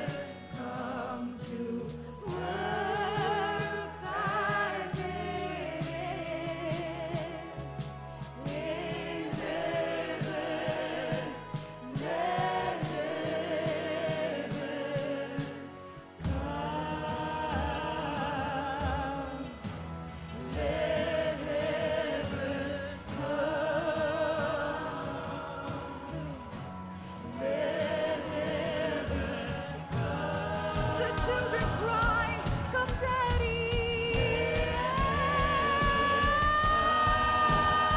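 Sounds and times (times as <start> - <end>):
gospel band playing: 0.0 - 37.9
singers holding long wavering notes: 0.0 - 37.9.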